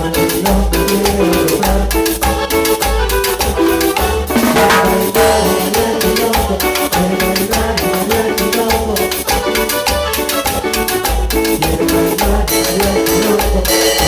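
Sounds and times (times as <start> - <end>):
band playing cumbia: 0.0 - 14.0.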